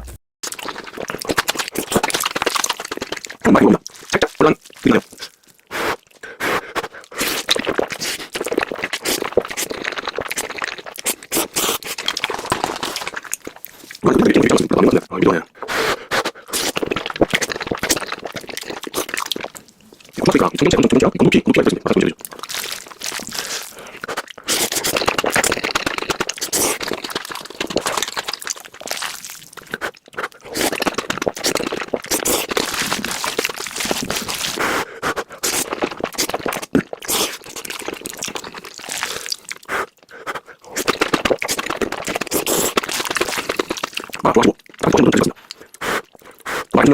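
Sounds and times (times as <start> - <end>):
chewing noodles: 0.4 - 46.9.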